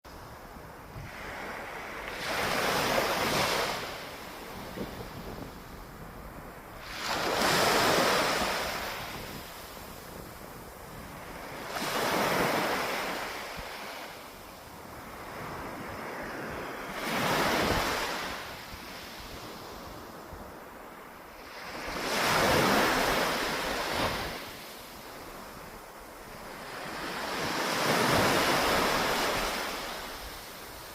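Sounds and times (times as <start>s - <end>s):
sea waves breaking on beach: 1.0s - 5.4s, 6.8s - 20.2s, 21.4s - 30.9s.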